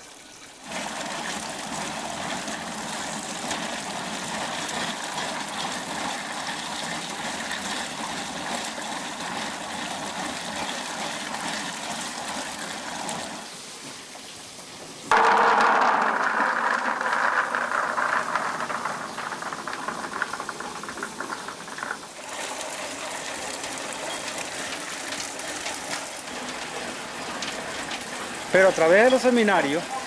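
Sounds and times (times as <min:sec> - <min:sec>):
beans and water pouring: 0:00.0 - 0:13.7, 0:15.1 - 0:30.0
water gushing and splashing: 0:00.0 - 0:30.0.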